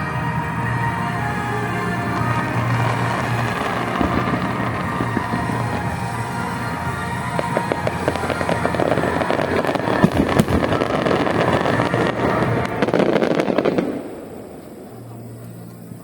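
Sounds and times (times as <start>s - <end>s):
fireworks bangs: 0.0s - 16.0s
fireworks crackling pops: 0.8s - 16.0s.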